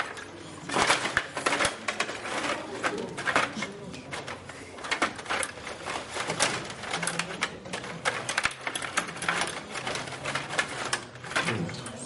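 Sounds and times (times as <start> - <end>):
table hockey clatter: 0.0 - 12.0.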